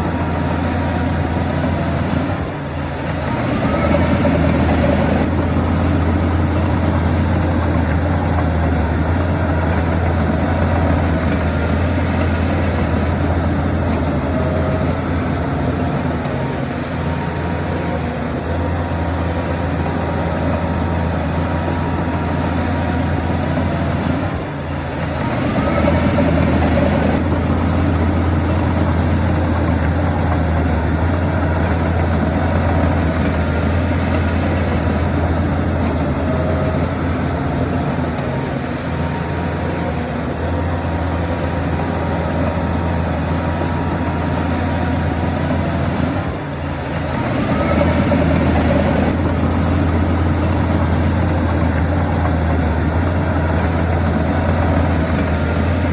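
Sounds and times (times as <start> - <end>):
heavy diesel engine revving: 0.0 - 55.9.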